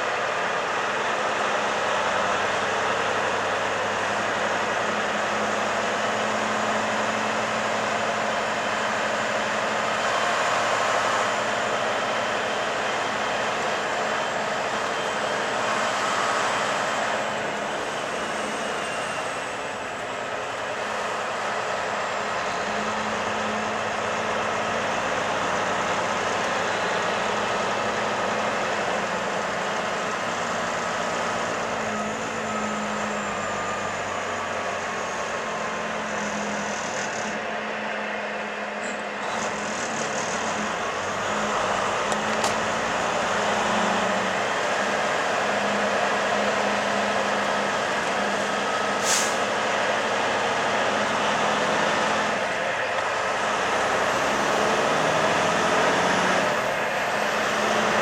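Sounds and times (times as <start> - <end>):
road and wind noise: 0.0 - 58.0
truck engine drone: 0.0 - 58.0.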